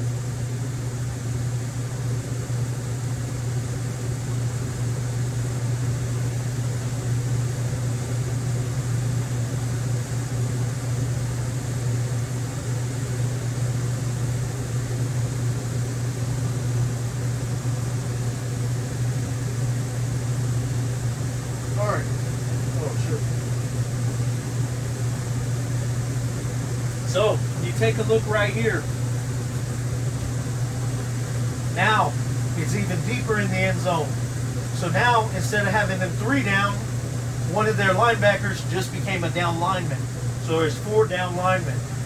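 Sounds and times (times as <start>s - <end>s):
steady low hum with hiss: 0.0s - 42.0s.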